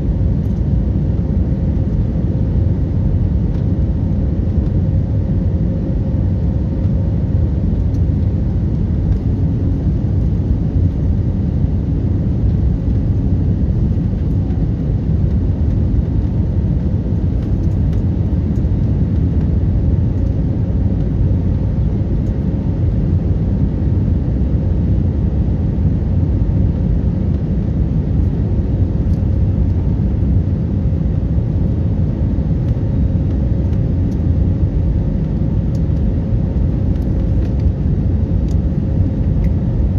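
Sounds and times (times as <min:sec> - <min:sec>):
airliner rumble: 0:00.0 - 0:39.9.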